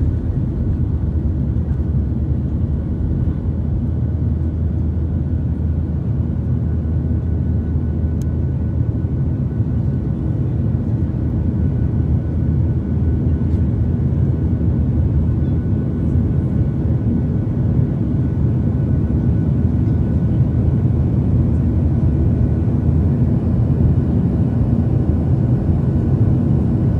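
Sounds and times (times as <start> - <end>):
jet engines deep rumble: 0.0 - 26.9.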